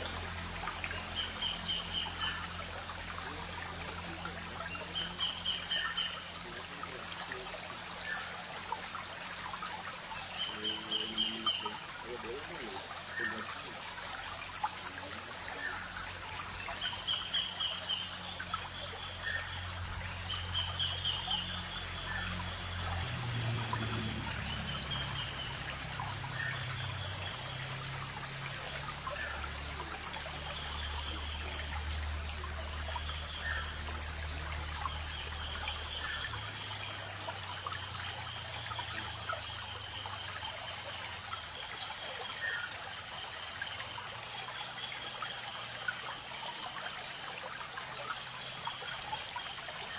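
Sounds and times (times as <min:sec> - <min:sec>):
birds chirping: 0:00.0 - 0:49.9
stream babbling over stones: 0:00.0 - 0:49.9.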